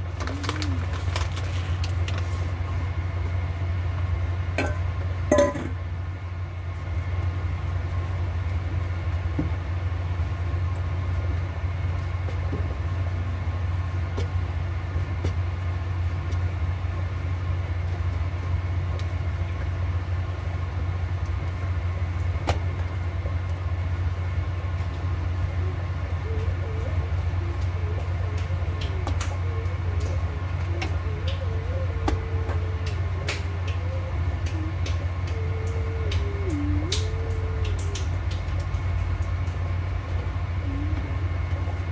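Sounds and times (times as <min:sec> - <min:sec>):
low mechanical hum: 0:00.0 - 0:41.9.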